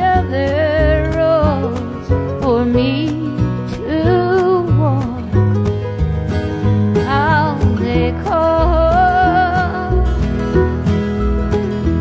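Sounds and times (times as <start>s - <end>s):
woman singing country song: 0.0s - 10.7s
acoustic guitar: 0.0s - 12.0s
bass: 0.0s - 12.0s.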